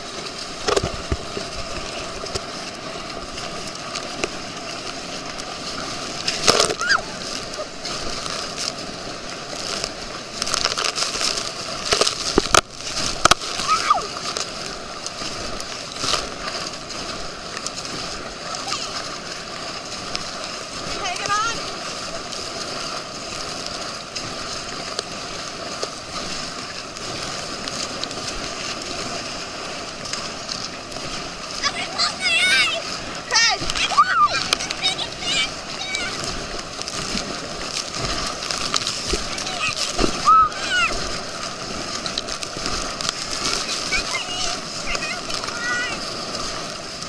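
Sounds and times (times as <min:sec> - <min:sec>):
rushing wind and water: 0:00.0 - 0:47.0.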